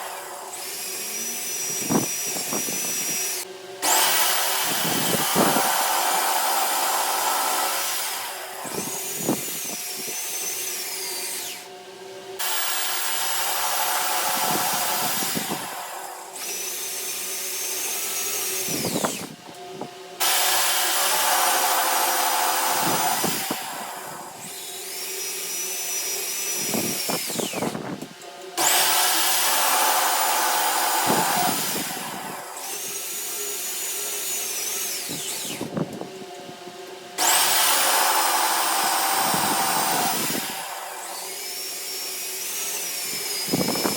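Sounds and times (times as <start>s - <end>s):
high motor whine: 0.0s - 25.4s, 26.2s - 43.9s
electric drill running: 0.0s - 36.1s, 37.1s - 43.9s.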